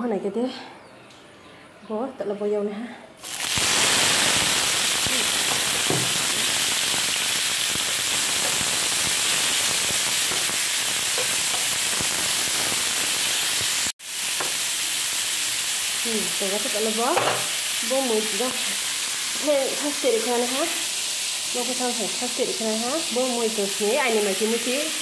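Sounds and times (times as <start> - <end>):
vegetables sizzling in hot oil: 3.2 - 25.0.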